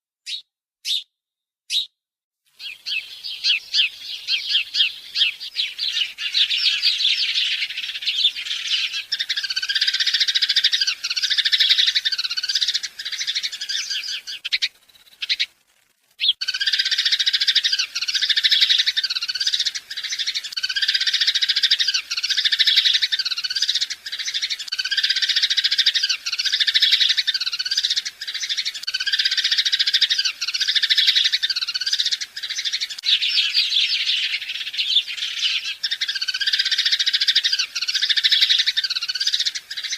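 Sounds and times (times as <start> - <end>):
small birds chirping: 0.2 - 39.9.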